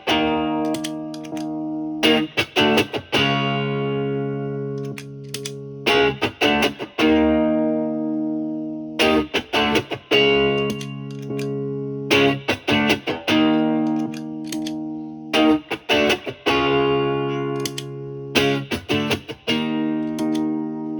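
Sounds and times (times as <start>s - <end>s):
overdriven electric guitar chords: 0.0s - 20.9s.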